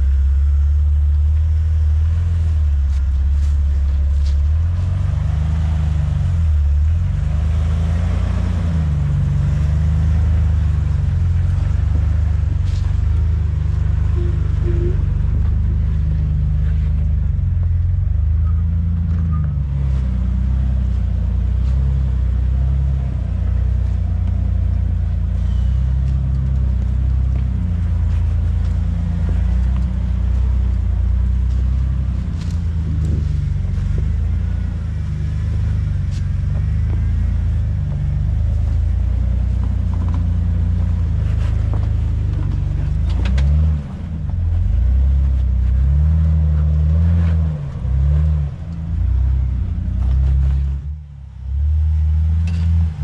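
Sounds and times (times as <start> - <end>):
off-road vehicle engine droning: 0.0 - 53.0.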